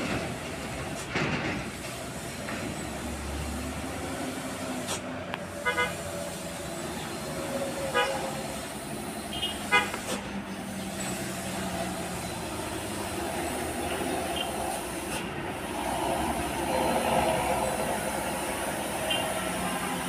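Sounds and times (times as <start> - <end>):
passing traffic engines: 0.0 - 20.0.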